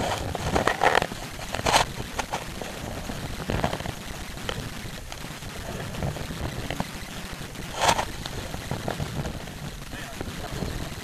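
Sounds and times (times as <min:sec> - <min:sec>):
water rushing along boat hull: 0:00.0 - 0:11.0.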